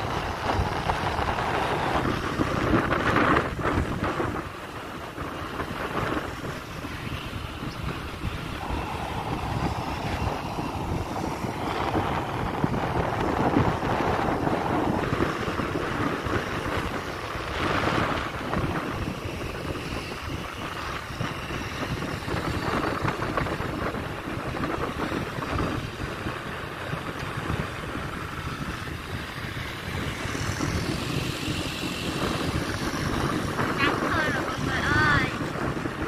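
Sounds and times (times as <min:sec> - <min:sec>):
motorbike engine and road noise: 0:00.0 - 0:36.0
passing traffic: 0:00.0 - 0:36.0
wind buffeting microphone: 0:00.0 - 0:36.0.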